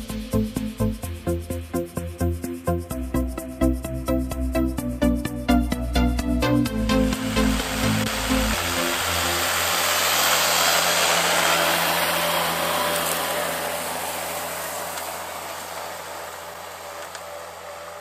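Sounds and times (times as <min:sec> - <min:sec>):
steady hiss: 0:00.0 - 0:18.0
tractor diesel engine running: 0:00.0 - 0:18.0.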